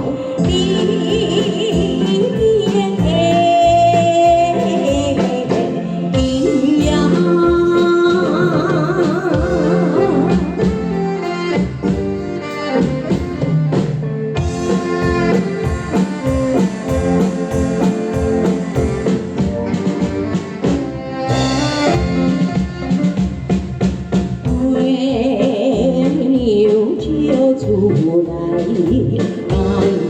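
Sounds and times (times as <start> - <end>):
drum kit steady beat: 0.0 - 30.0
guitar: 0.0 - 30.0.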